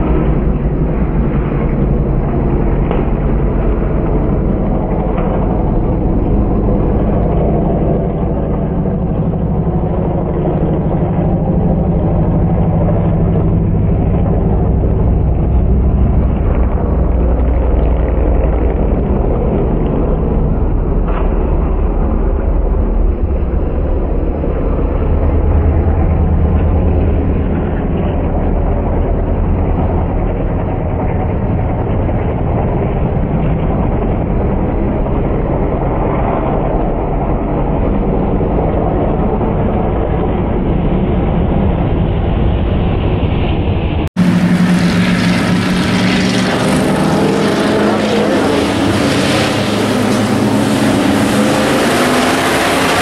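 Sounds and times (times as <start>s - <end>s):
race truck engines running hard: 0.0s - 53.0s.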